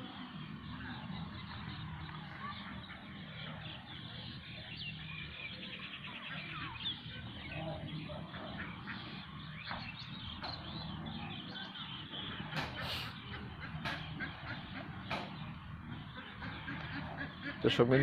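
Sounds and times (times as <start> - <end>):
low background hum: 0.0 - 18.0
small birds chirping: 0.0 - 18.0.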